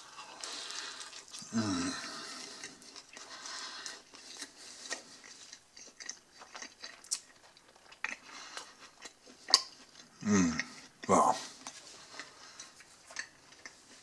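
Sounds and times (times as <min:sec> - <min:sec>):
wet chewing mouth smacks: 0:02.4 - 0:14.0.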